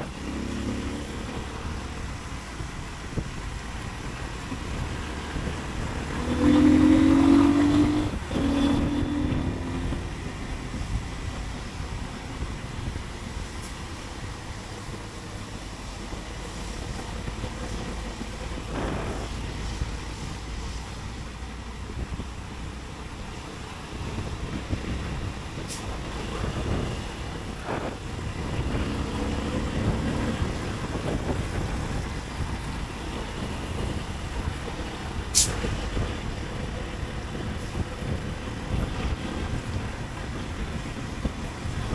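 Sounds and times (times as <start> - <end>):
motorcycle engine rumble: 0.0 - 41.9
vehicles passing: 0.0 - 41.9
wind noise: 0.0 - 41.9.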